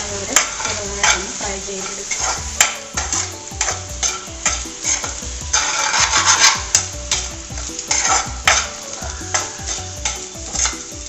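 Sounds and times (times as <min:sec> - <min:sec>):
food sizzling: 0:00.0 - 0:11.0
utensil scraping a frying pan: 0:00.0 - 0:11.0.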